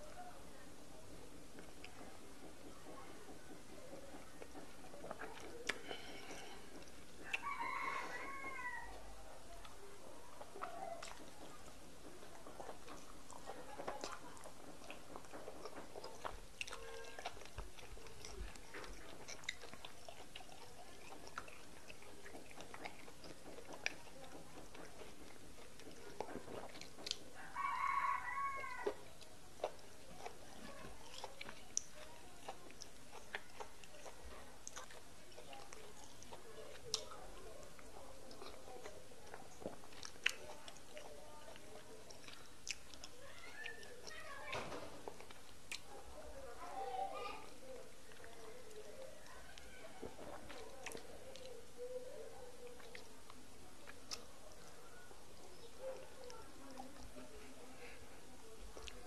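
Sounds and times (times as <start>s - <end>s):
wet chewing: 0.0s - 59.0s.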